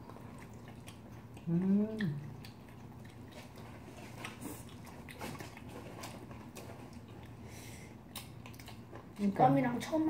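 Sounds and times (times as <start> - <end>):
person chewing food: 0.0 - 9.4
low steady hum: 0.0 - 10.0.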